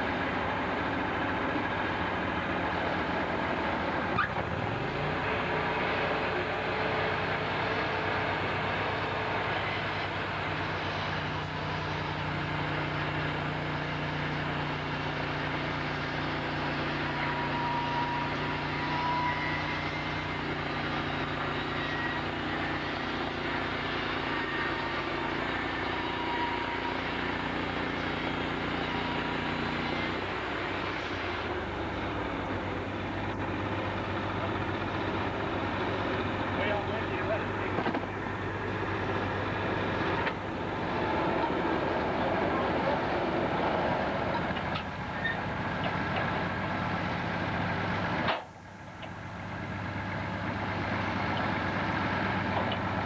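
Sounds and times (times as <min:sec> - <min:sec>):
sawmill engine drone: 0:00.0 - 0:53.0.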